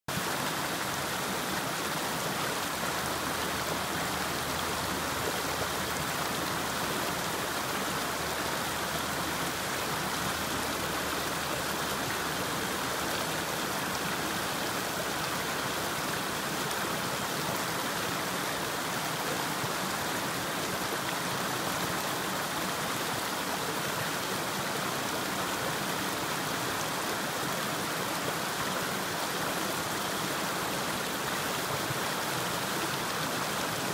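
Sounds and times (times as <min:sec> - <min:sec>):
stream babbling over rocks: 0:00.1 - 0:33.9.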